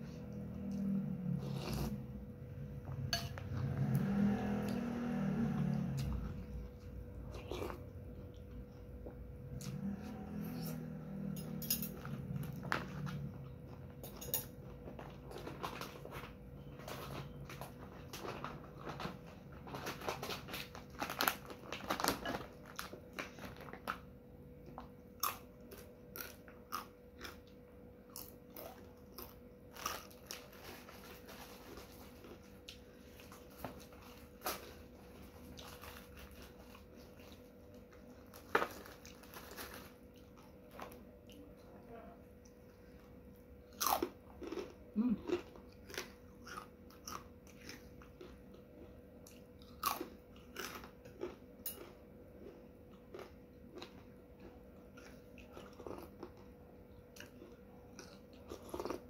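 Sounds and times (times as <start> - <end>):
faint steady hum: 0.0 - 59.0
crunching and chewing chips: 2.8 - 41.8, 42.4 - 59.0.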